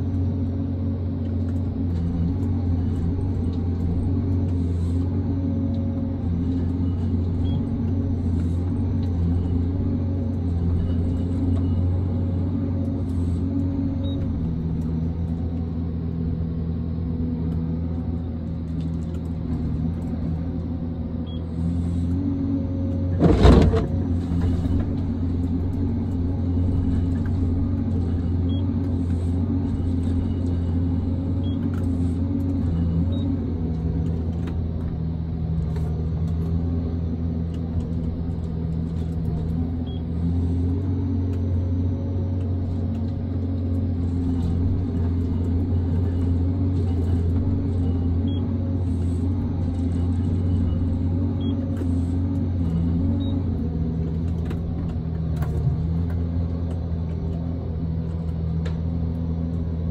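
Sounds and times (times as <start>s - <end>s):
harvester engine and hydraulics drone: 0.0s - 59.9s.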